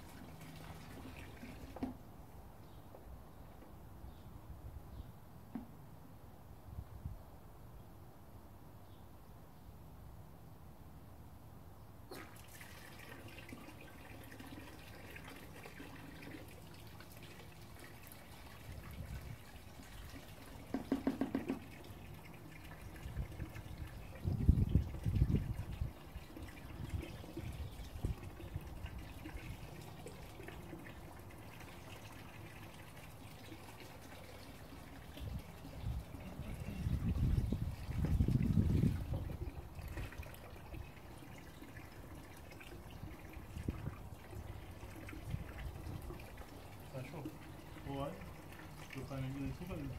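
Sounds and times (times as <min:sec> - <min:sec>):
water splashing and trickling: 0:00.0 - 0:02.3, 0:12.1 - 0:49.9.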